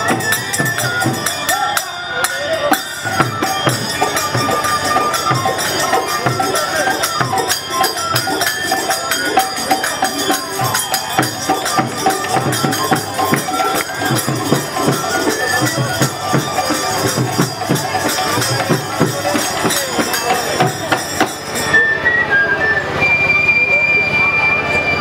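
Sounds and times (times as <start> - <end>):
hand drum beat: 0.0 - 21.6
hand cymbals clashing: 0.0 - 22.0
flute melody: 0.0 - 25.0.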